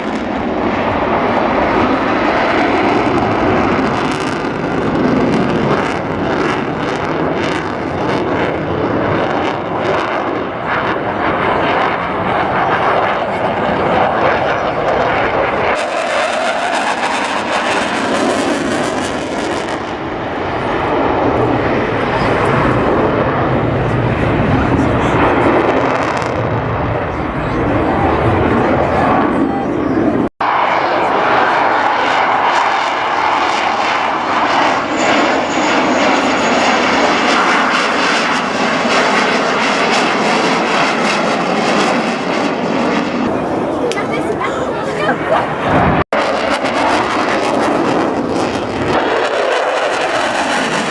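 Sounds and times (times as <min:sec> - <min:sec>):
jet aircraft engine roar: 0:00.0 - 0:50.9.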